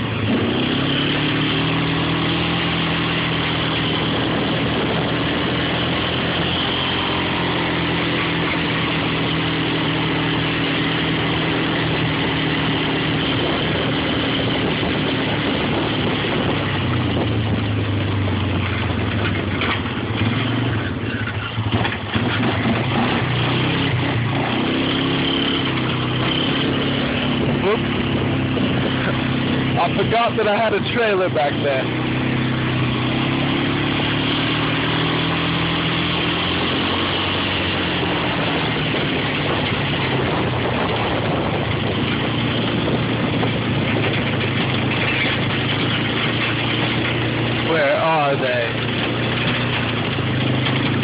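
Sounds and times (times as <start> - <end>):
small vehicle engine running: 0.0 - 51.0.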